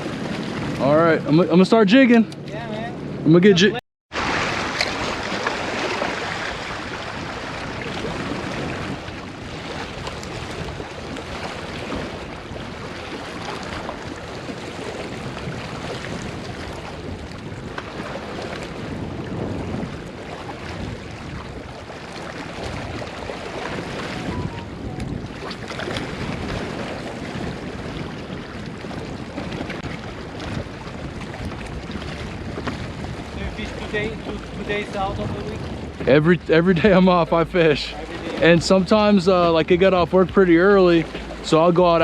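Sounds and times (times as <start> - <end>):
water sounds: 0.0 - 42.0
wind buffeting microphone: 4.2 - 42.0.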